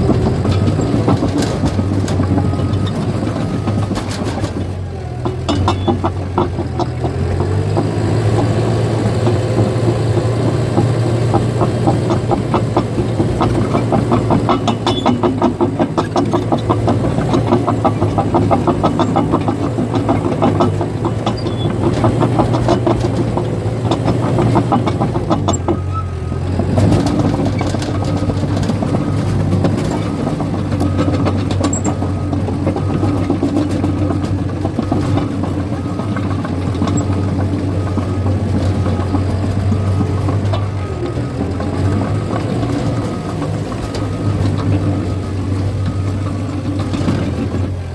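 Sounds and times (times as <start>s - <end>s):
bulldozer diesel engine running: 0.0s - 47.9s
steel tracks clattering: 0.0s - 47.9s.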